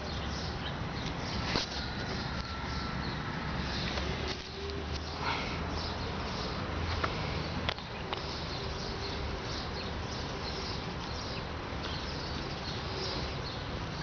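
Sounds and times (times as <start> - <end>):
birds chirping: 0.0 - 14.0
steady background hiss: 0.0 - 14.0.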